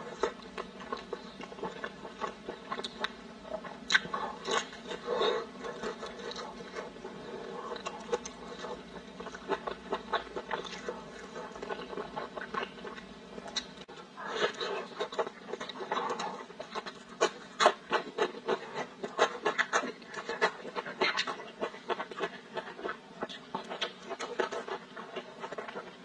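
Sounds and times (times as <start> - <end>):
wet chewing and lip-smacking: 0.1 - 26.0.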